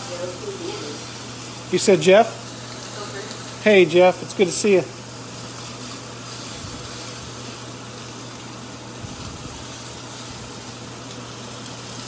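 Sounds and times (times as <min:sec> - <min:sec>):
meat sizzling on a grill pan: 0:00.0 - 0:12.0.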